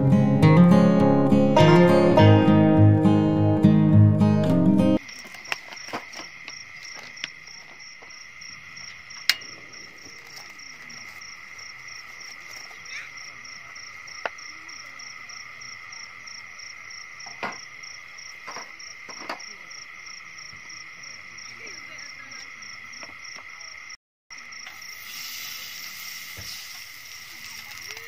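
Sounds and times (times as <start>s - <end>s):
night insects chirping: 5.0s - 28.0s.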